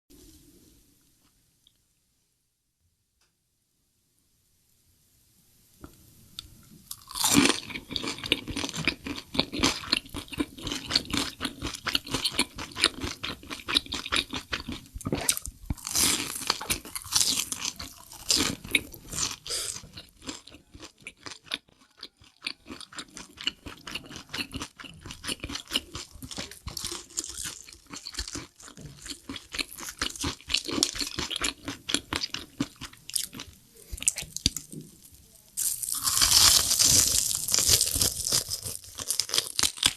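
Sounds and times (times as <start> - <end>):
crunchy bites and chewing: 6.9 - 39.9.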